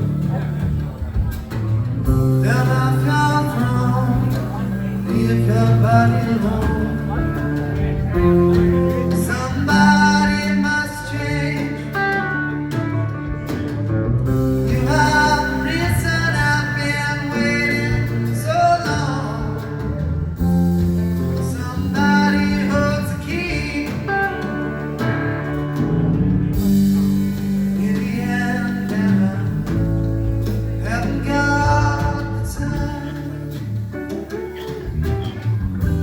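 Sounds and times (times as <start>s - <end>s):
bass notes: 0.0s - 36.0s
guitar lines: 0.0s - 36.0s
person singing: 0.0s - 36.0s
rock band playing: 0.0s - 36.0s.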